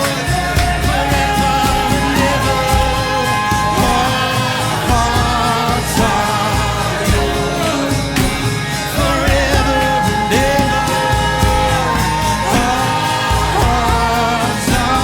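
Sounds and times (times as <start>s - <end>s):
bass: 0.0s - 15.0s
drum and cymbal hits: 0.0s - 15.0s
person singing long held notes: 0.0s - 15.0s.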